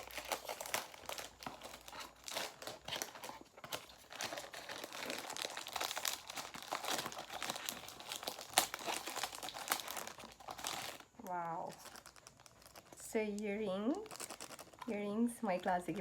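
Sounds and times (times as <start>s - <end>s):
gift wrapping crinkling: 0.0s - 16.0s.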